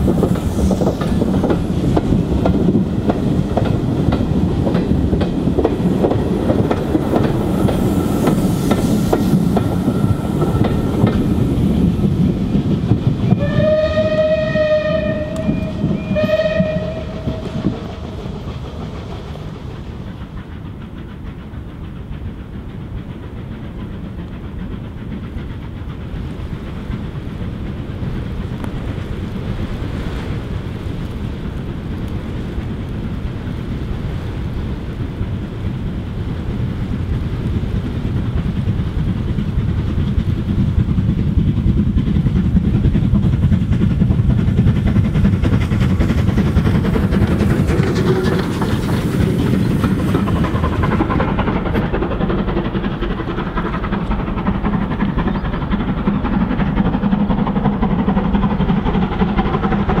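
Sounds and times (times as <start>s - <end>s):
distant steam train approaching: 0.0s - 60.0s
steam locomotive exhaust: 0.0s - 60.0s
train rolling past: 0.0s - 60.0s.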